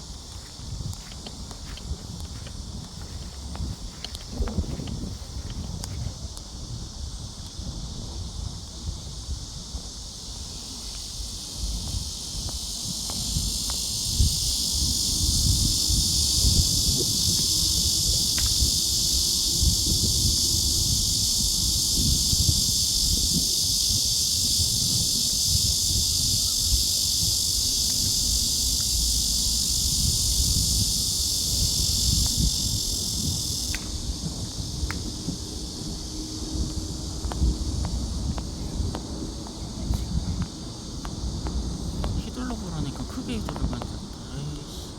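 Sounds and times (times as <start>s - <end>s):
insects buzzing: 0.0s - 44.9s
wind rumbling on microphone: 0.0s - 44.9s.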